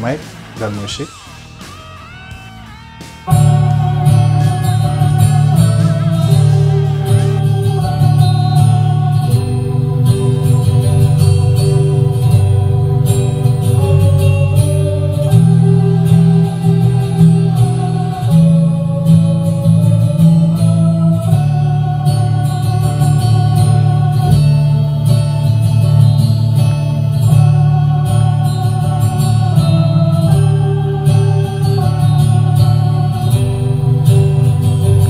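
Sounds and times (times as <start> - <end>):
pop backing track through speakers: 0.0 - 35.0.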